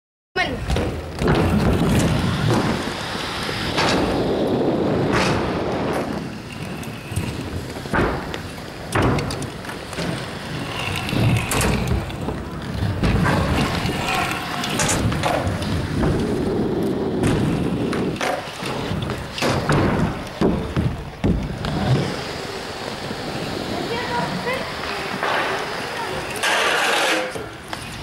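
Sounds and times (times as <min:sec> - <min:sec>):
scooter wheels rolling: 0:00.4 - 0:28.0.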